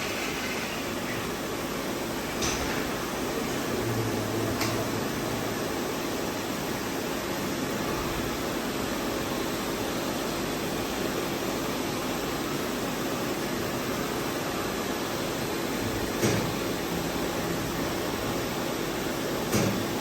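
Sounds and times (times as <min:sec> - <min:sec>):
machine hum and hiss: 0:00.0 - 0:20.0.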